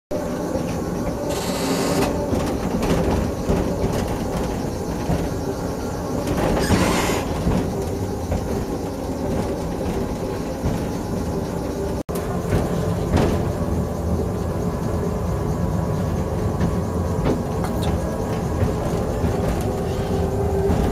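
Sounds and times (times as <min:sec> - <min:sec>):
mini train rumble: 0:00.1 - 0:20.9.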